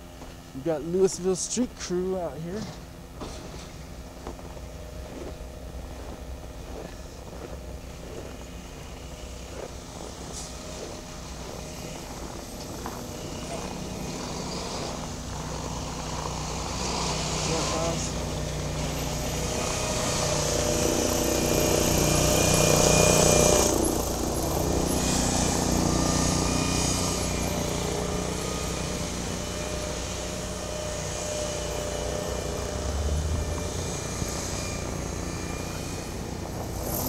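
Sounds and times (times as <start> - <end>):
engine running: 0.0 - 37.0
road and machine noise: 0.0 - 37.0.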